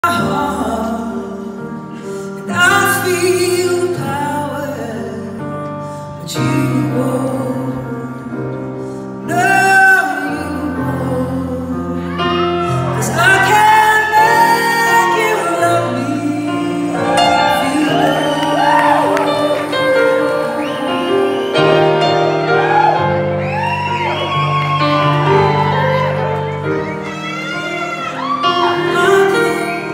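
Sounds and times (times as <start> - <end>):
woman singing a slow ballad: 0.0 - 22.0, 27.2 - 29.9.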